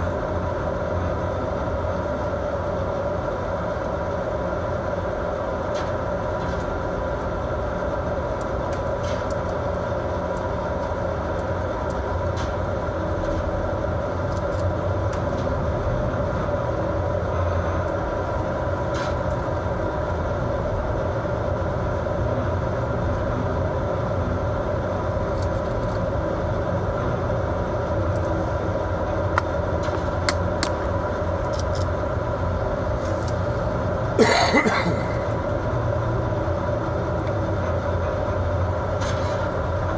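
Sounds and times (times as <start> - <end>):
ship engine drone: 0.0 - 39.9
wind: 0.0 - 39.9.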